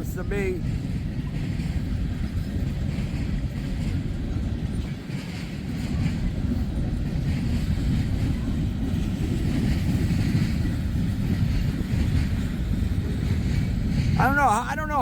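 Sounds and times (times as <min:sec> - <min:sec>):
freight train cars rumbling: 0:00.0 - 0:15.0
wind buffeting microphone: 0:00.0 - 0:15.0.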